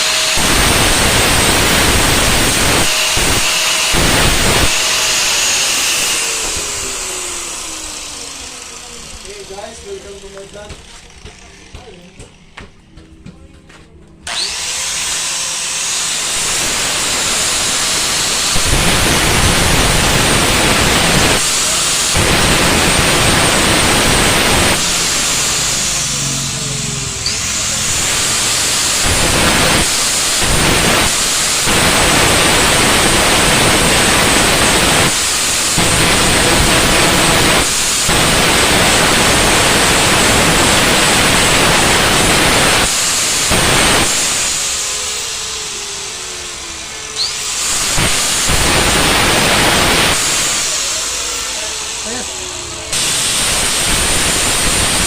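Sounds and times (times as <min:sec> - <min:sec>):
power tool running: 0:00.0 - 0:13.3, 0:14.2 - 0:55.0.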